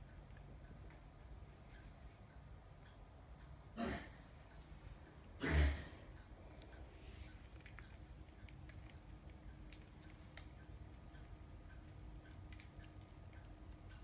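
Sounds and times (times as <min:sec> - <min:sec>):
faint light ticks: 0:00.0 - 0:03.7, 0:04.4 - 0:05.4, 0:06.1 - 0:14.0.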